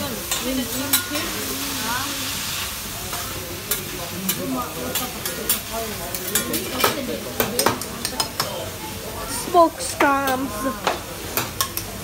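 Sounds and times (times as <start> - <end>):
greens sizzling on a griddle: 0.0 - 12.0.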